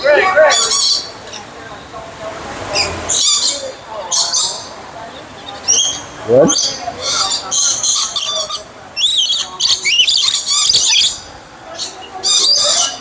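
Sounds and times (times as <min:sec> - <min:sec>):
birds squawking and screeching: 0:00.0 - 0:01.6, 0:02.7 - 0:13.0.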